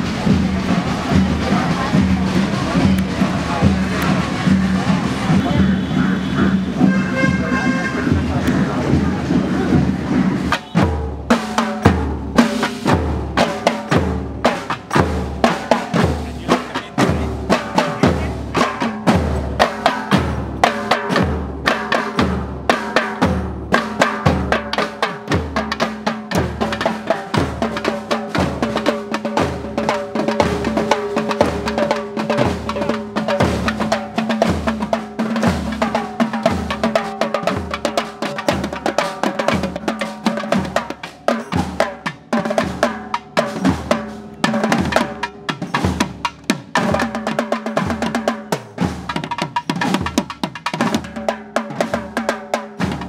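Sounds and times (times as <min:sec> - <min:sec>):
deep drum beat: 0:00.0 - 0:53.0
snare and tom drums: 0:00.0 - 0:53.0.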